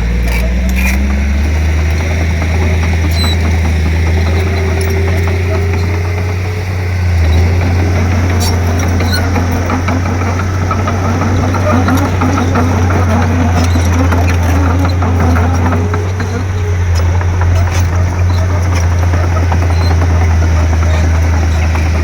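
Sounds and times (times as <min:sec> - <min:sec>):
bulldozer diesel engine droning: 0:00.0 - 0:22.0
metal clicks and clanks: 0:00.0 - 0:22.0.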